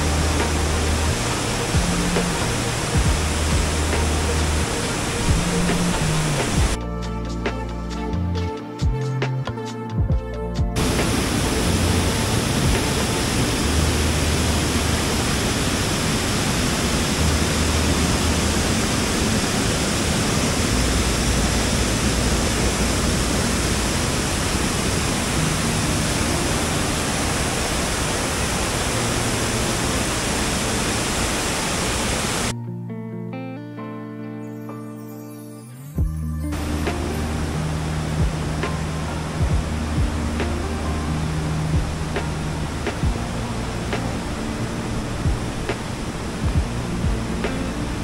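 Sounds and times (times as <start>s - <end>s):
waterfall rushing: 0.0s - 6.8s, 10.8s - 32.5s, 36.5s - 48.0s.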